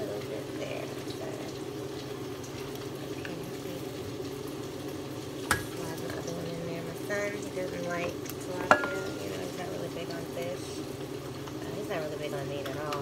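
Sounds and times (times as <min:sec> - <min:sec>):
fish frying in hot oil: 0:00.0 - 0:13.0
range hood blower hum: 0:00.0 - 0:13.0.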